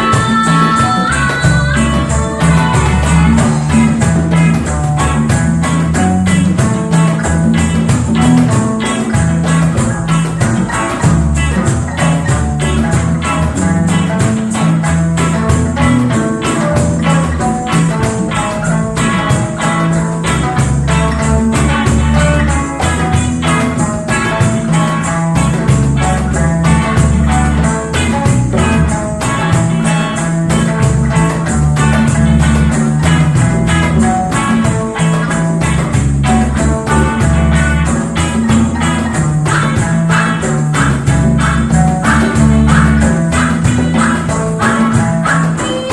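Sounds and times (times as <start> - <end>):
live reggae band playing: 0.0 - 45.9
tambourine or shaker beat: 0.0 - 45.9.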